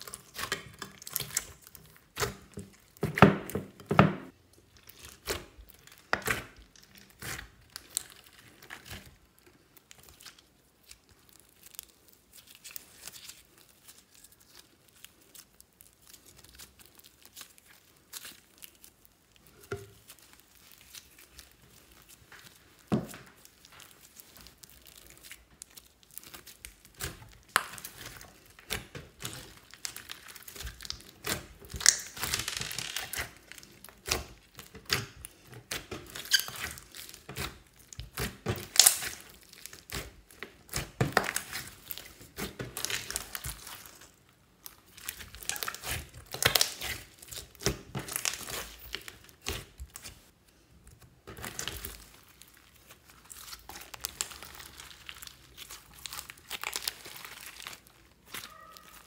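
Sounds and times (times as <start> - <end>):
hands squeezing sticky slime: 0.0 - 3.6, 4.3 - 59.0.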